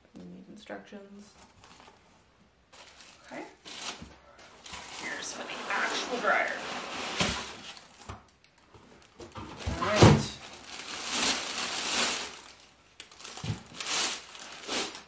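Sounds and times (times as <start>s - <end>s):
plastic bag crinkling: 2.7s - 15.0s.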